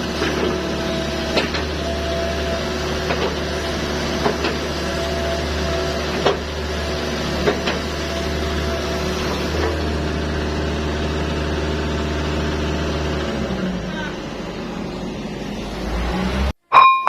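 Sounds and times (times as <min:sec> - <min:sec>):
excavator diesel engine running: 0:00.0 - 0:16.6.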